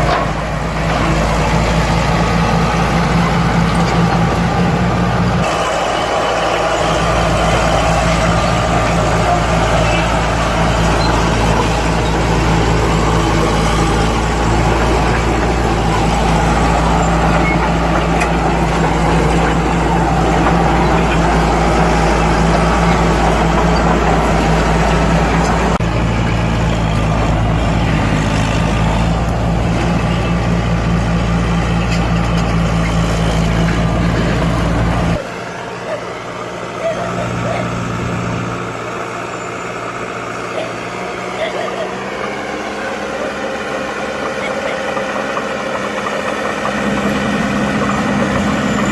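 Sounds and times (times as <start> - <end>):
bulldozer diesel engine rumbling: 0.0 - 48.9.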